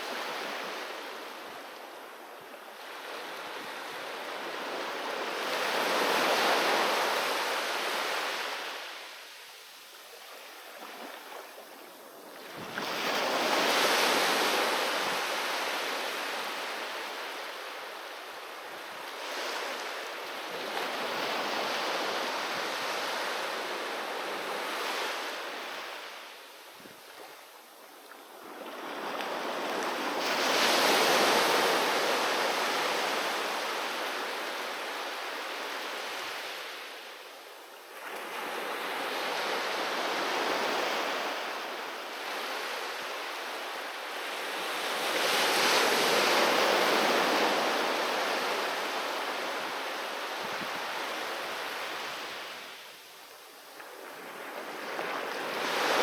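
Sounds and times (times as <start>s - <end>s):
ocean waves breaking on beach: 0.0s - 53.0s, 53.7s - 56.0s.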